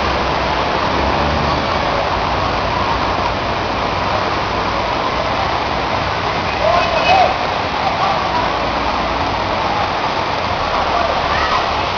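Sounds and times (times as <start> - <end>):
heavy rain: 0.0 - 11.9
low vehicle engine rumble: 0.0 - 11.9
rushing floodwater: 0.0 - 11.9.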